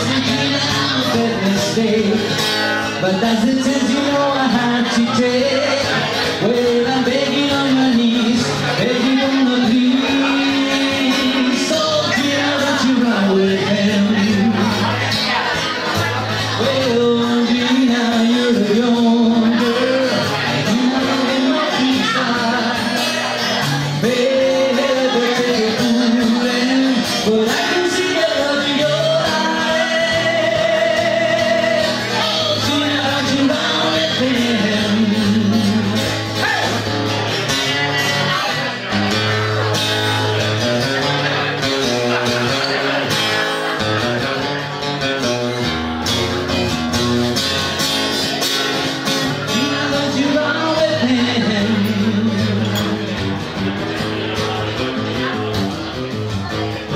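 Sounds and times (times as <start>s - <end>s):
man singing: 0.0s - 47.0s, 48.8s - 56.9s
acoustic guitar strumming: 0.0s - 56.9s.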